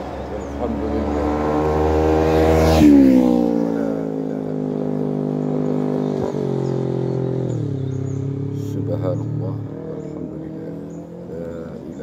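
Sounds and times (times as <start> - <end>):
vehicle engine idling: 0.0 - 1.4, 3.7 - 12.0.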